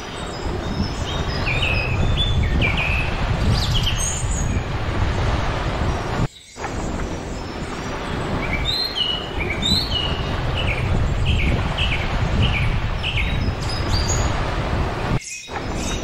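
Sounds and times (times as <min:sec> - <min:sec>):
waves on a beach: 0:00.0 - 0:16.0
wind: 0:00.0 - 0:16.0.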